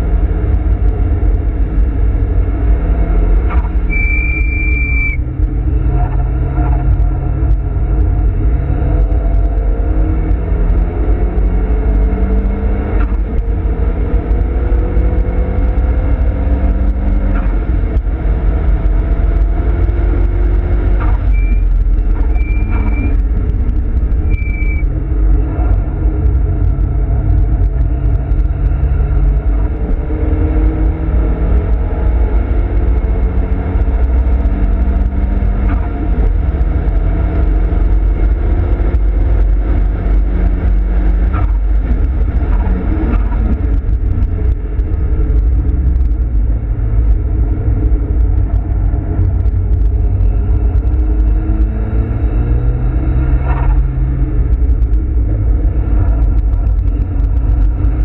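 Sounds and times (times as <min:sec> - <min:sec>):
car engine revving: 0:00.0 - 0:58.0
road and drivetrain rumble: 0:00.0 - 0:58.0.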